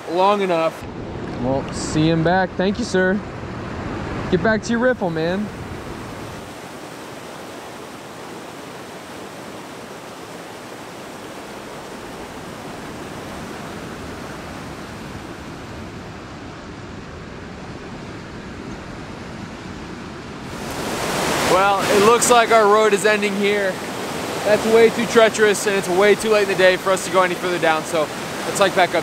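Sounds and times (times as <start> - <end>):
river rapids roaring: 3.3 - 19.3, 20.5 - 29.0.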